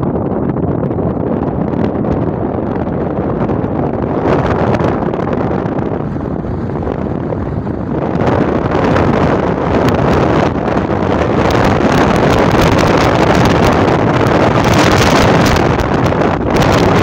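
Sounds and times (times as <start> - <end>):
car road noise: 0.0 - 17.0
wind buffeting microphone: 0.0 - 17.0.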